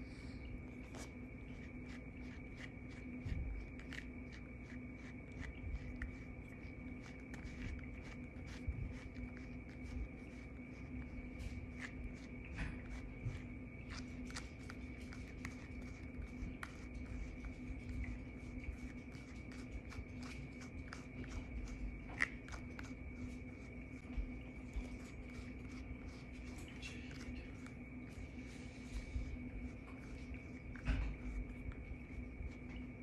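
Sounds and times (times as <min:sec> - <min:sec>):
brush stroking cat fur: 0:00.0 - 0:33.0
faint hum: 0:00.0 - 0:33.0.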